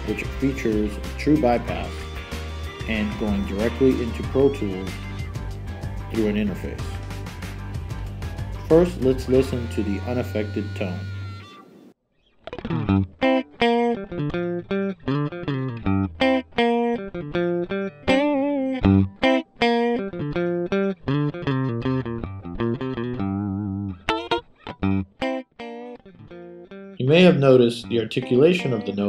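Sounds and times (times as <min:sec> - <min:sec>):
clean electric guitar notes and chords: 0:00.0 - 0:11.4, 0:12.4 - 0:29.0.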